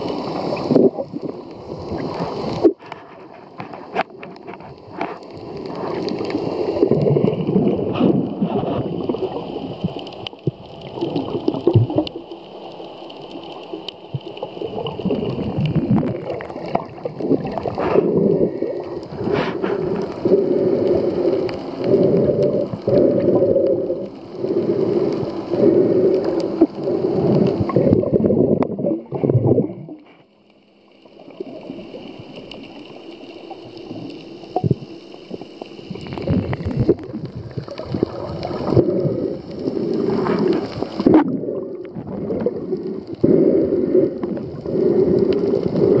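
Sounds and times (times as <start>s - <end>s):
muffled water sloshing underwater: 0.0s - 46.0s.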